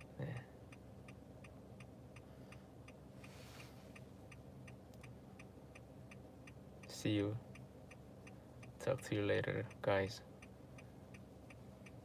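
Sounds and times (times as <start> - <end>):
soft hiss: 0.0 - 12.0
turn signal ticking: 0.0 - 12.0.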